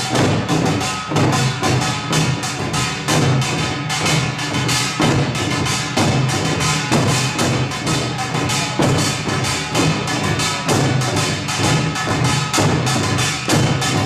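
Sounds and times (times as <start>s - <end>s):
music with percussive beat: 0.0s - 14.0s.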